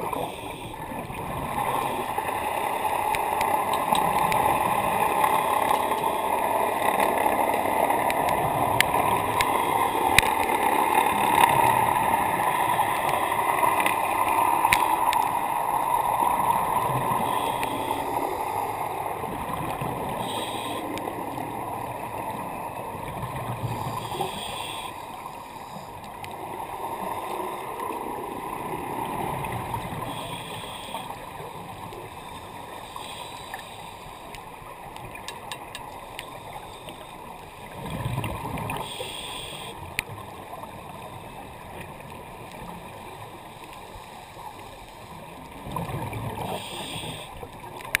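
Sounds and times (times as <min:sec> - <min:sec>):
underwater rushing wash: 0:00.0 - 0:48.0.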